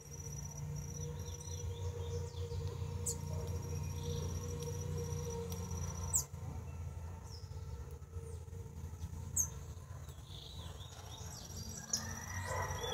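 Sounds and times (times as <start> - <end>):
small songbird chirping: 0.0 - 8.5, 9.2 - 12.9
steady low rumble: 0.0 - 10.8.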